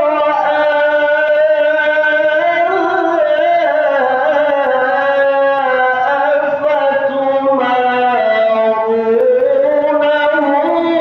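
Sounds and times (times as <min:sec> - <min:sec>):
man reciting a long melodic note: 0:00.0 - 0:11.0.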